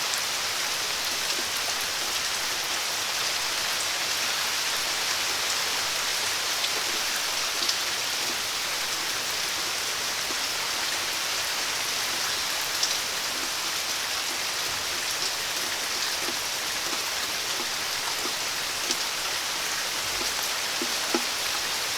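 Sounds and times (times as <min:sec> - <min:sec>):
steady rain falling: 0:00.0 - 0:21.9
drips and small splashes: 0:00.1 - 0:21.9.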